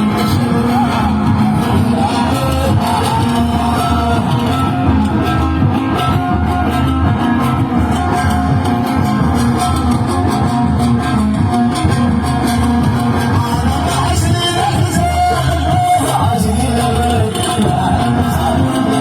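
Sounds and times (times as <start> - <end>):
live band instrumental: 0.0 - 19.0
plucked guitar melody: 0.0 - 19.0.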